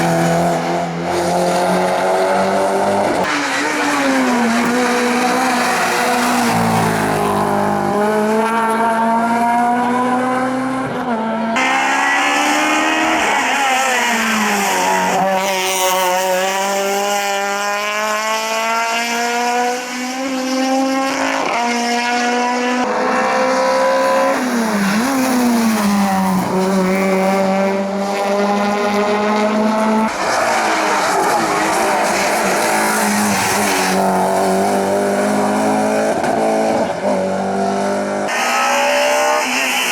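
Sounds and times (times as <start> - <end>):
racing car engines at full throttle: 0.0 - 39.9.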